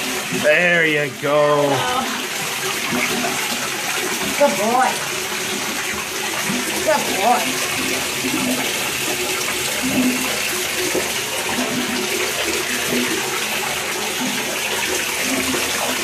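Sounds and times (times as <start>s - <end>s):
water running in a bathtub: 0.0s - 16.0s.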